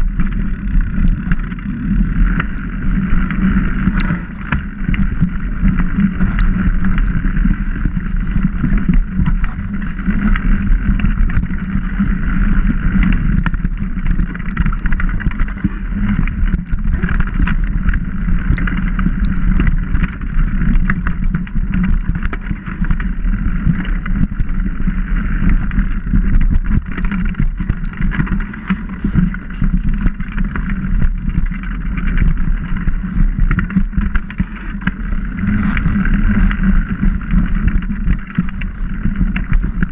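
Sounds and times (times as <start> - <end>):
bike clicking and rattling: 0.0 - 39.9
bike tyres rumbling on dirt: 0.0 - 39.9
wind on microphone: 0.0 - 39.9.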